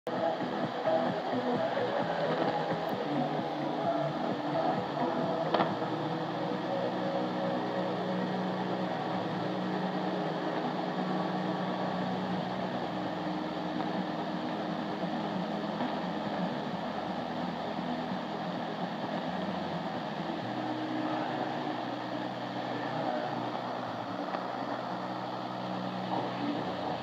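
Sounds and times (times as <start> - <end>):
faint radio tones: 0.1 - 27.0
radio static hiss: 0.1 - 27.0.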